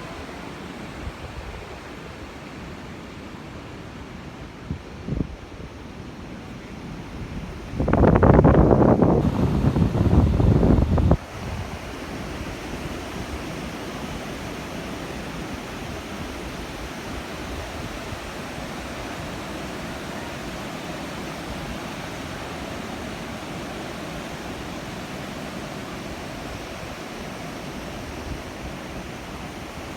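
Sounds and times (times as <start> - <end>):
ocean surf rushing: 0.0 - 29.9.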